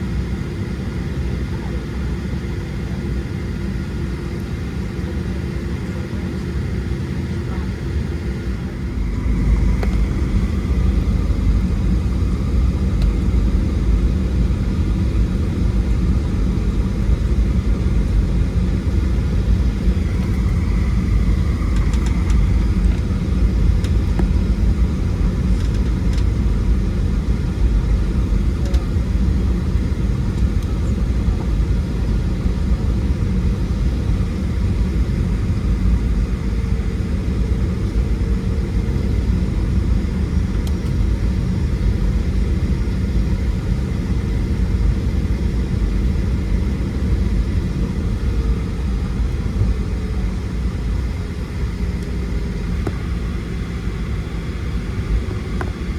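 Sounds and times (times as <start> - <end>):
airplane cabin low rumble: 0.0 - 55.9.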